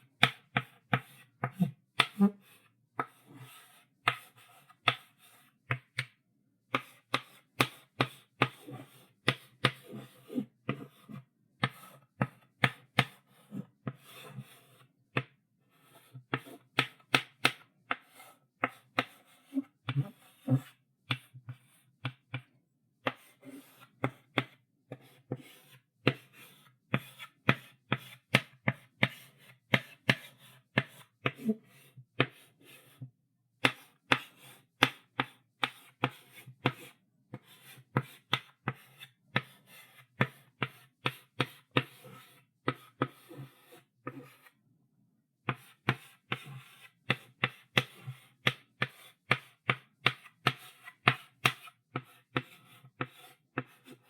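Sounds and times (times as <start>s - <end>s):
chalk tapping on a blackboard: 0.1s - 33.0s, 33.6s - 44.5s, 45.4s - 54.0s
chalk scratching on a blackboard: 0.6s - 5.6s, 6.7s - 14.9s, 15.7s - 21.8s, 23.0s - 33.0s, 33.6s - 44.6s, 45.5s - 54.0s.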